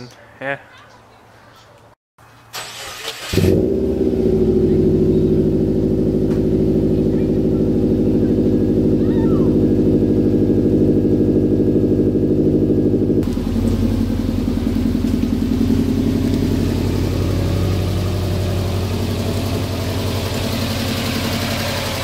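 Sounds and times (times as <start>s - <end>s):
car engine starting and idling: 2.5s - 22.0s.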